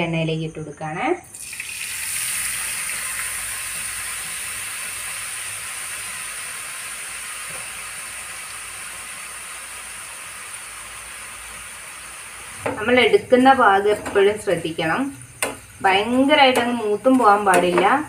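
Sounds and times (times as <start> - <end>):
potato sizzling in hot oil: 1.3 - 18.0.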